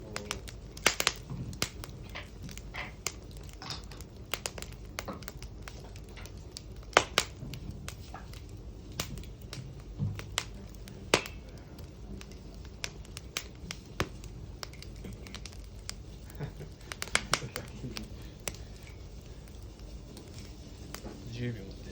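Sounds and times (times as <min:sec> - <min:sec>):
campfire crackling: 0:00.0 - 0:21.9
low steady rumble: 0:00.0 - 0:21.9.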